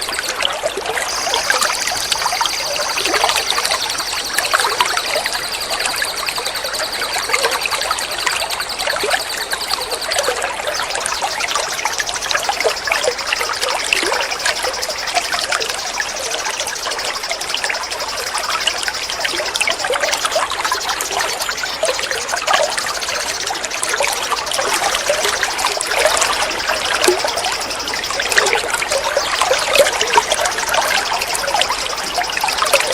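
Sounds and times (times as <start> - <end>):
high pulsed trill: 1.0 - 32.9.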